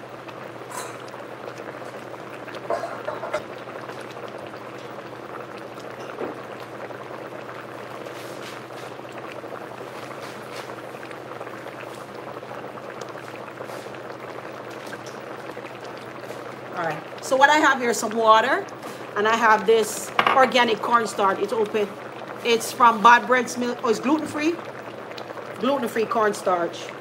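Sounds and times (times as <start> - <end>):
thick sauce bubbling and popping: 0.0 - 27.0.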